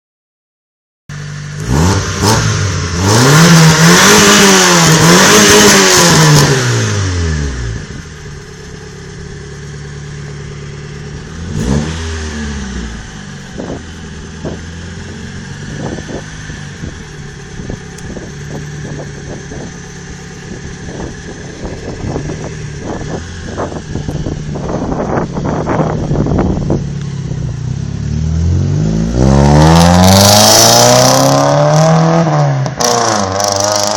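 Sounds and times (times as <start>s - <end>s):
car engine idling and revving: 1.1s - 33.9s.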